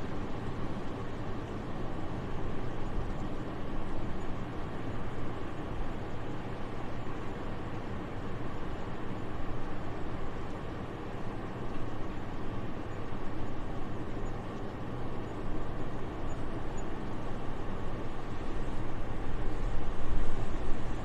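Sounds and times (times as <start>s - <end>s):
soft steady wind: 0.0s - 21.0s.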